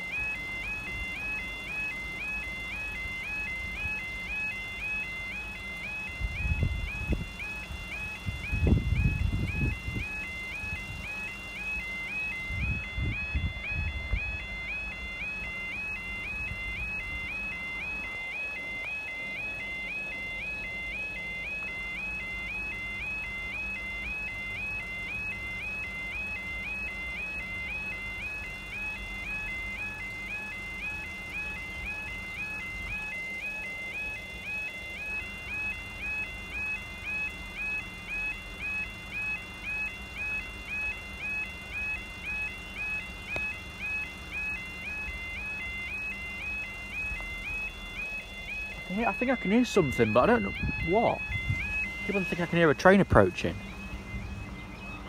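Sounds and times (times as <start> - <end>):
level crossing warbling alarm: 0.0 - 55.0.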